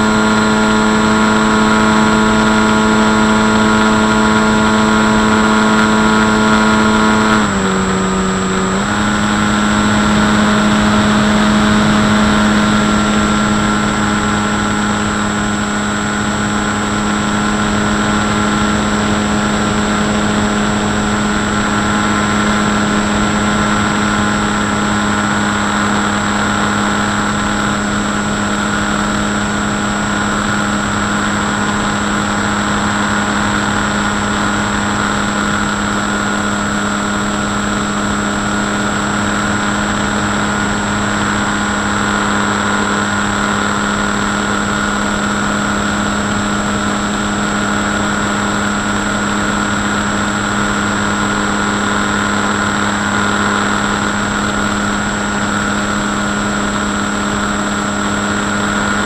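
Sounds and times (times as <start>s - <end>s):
electric propeller droning: 0.0s - 59.0s.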